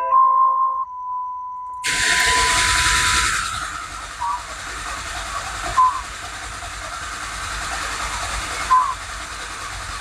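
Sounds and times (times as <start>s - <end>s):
truck engine cranking: 1.8s - 10.0s.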